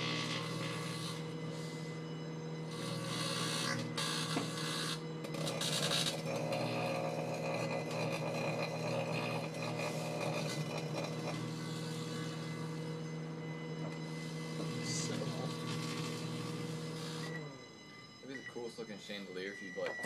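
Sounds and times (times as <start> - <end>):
microwave oven humming: 0.0 - 18.4.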